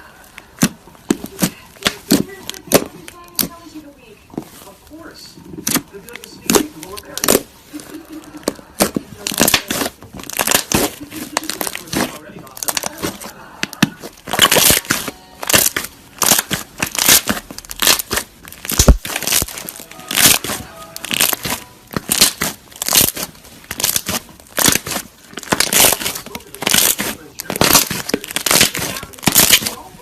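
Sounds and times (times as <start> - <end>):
slime squishing and popping: 0.3 - 3.6, 5.5 - 30.0.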